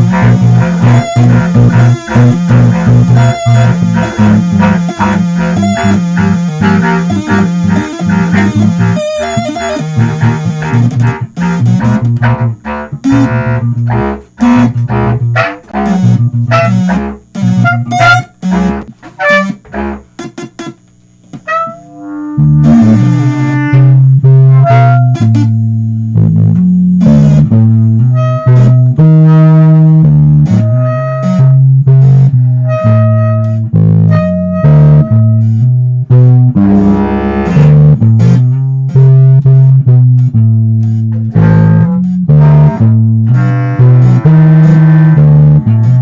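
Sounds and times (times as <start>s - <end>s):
electric bass line: 0.0s - 46.0s
plucked guitar notes: 0.0s - 46.0s.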